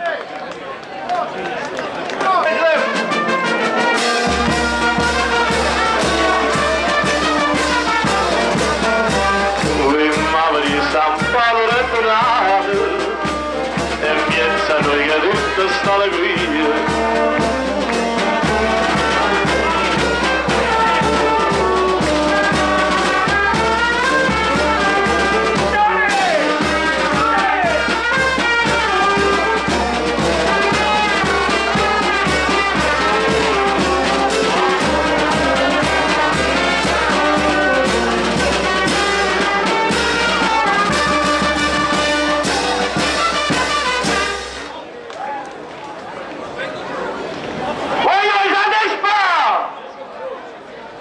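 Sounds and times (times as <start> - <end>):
brass band playing: 2.2 - 44.8
steady drum beat: 2.8 - 44.7.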